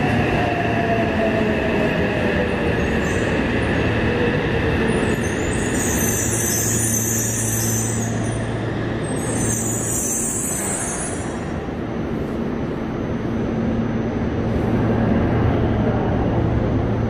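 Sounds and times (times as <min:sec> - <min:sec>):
train low hum: 0:00.0 - 0:17.0.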